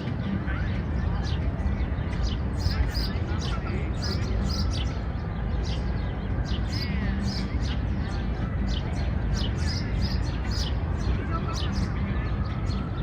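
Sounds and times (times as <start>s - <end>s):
low city rumble: 0.0s - 13.0s
small birds chirping: 0.0s - 13.0s.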